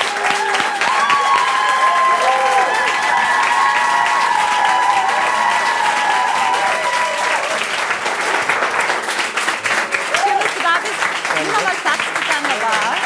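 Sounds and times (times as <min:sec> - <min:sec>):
audience applauding and cheering: 0:00.0 - 0:13.0.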